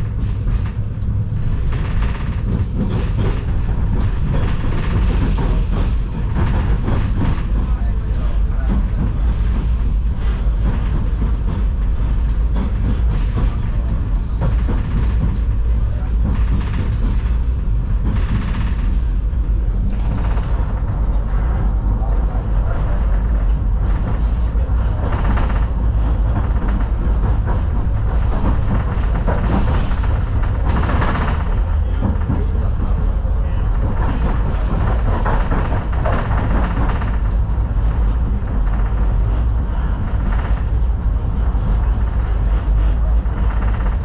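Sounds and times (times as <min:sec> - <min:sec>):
tram wheels rumbling on rails: 0:00.0 - 0:44.0.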